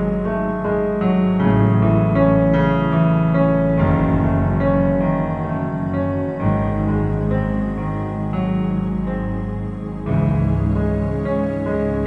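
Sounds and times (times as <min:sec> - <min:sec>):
ambient keyboard chords: 0:00.0 - 0:12.0.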